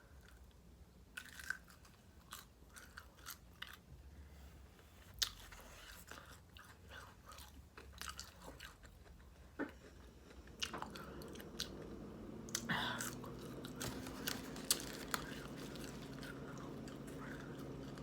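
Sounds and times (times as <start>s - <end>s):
person chewing crunchy food: 1.1s - 3.9s, 5.2s - 11.9s, 12.5s - 18.0s.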